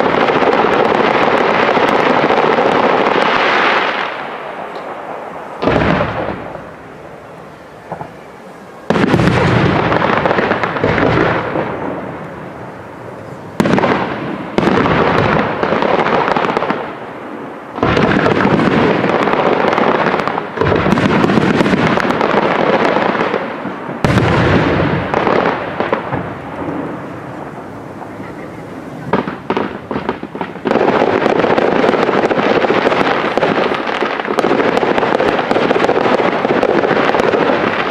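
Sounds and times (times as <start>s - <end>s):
firework shells booming: 0.0s - 37.9s.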